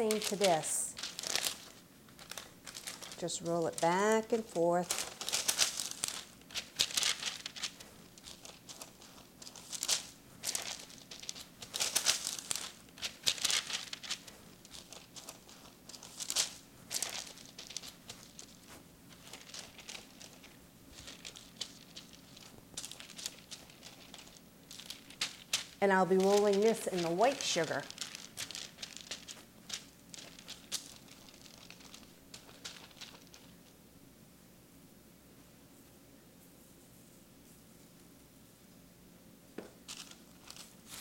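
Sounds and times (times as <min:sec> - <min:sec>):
parchment paper crinkling: 0:00.0 - 0:33.8, 0:39.8 - 0:41.0.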